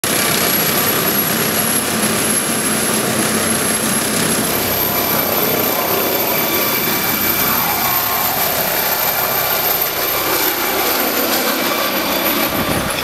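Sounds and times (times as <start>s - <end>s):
helicopter rotor and turbine noise: 0.0s - 13.0s
high turbine whine: 0.0s - 13.0s.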